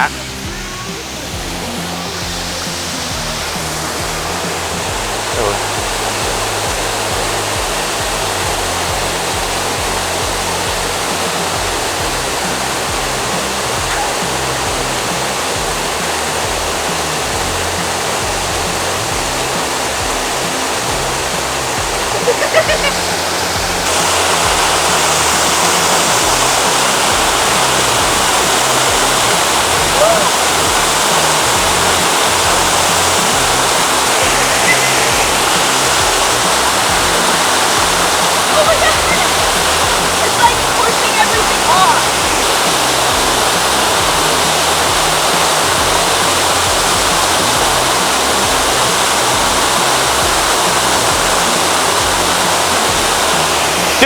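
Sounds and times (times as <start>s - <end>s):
background music bass line: 0.0s - 54.0s
waterfall rushing: 0.0s - 54.0s.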